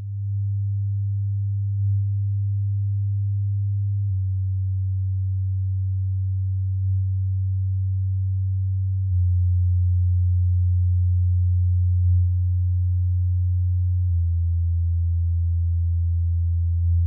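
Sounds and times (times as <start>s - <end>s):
low bass test tone: 0.0s - 17.0s.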